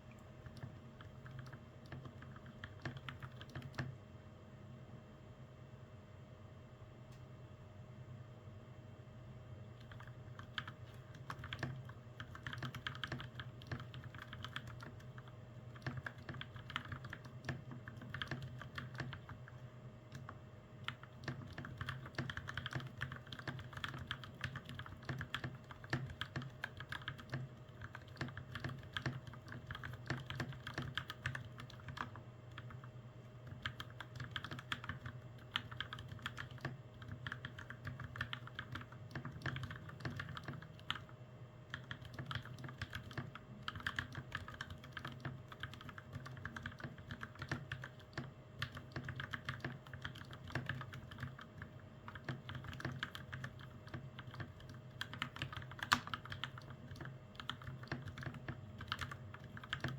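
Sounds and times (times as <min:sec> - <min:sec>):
mechanical keyboard typing: 0:00.4 - 0:03.9, 0:09.8 - 0:59.9.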